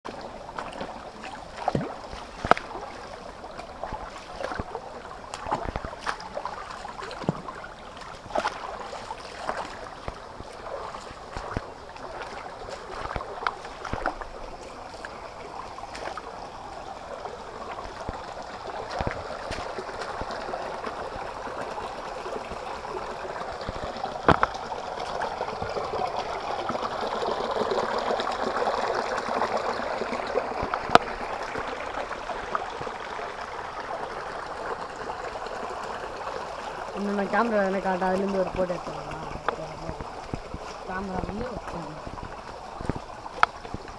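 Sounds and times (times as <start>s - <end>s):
stream rushing over stones: 0.0s - 43.9s.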